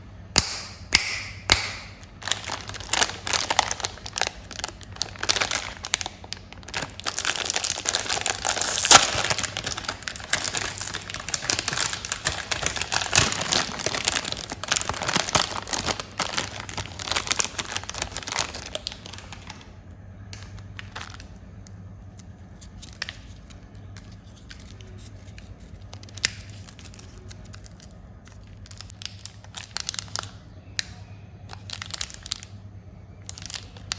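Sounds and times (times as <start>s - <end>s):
low steady hum: 0.0s - 33.9s
plastic wrappers crinkling and tearing: 1.8s - 32.6s, 33.2s - 33.9s.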